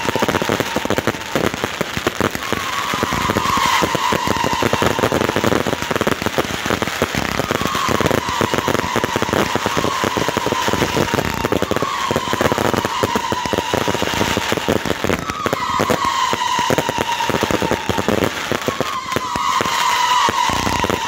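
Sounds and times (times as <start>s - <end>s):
fireworks crackling and popping: 0.0s - 21.0s
fireworks whistles: 0.0s - 21.0s.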